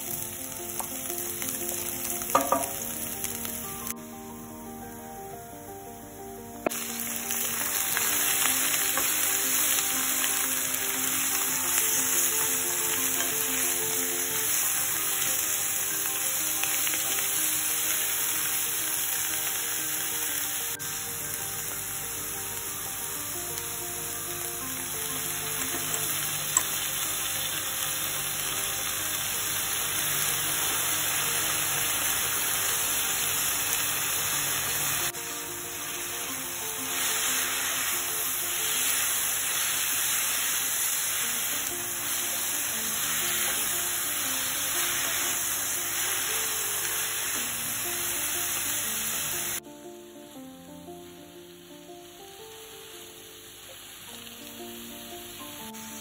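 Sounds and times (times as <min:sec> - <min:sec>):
vegetables sizzling in oil: 0:00.0 - 0:05.2, 0:05.9 - 0:56.0
soft background music: 0:00.0 - 0:56.0.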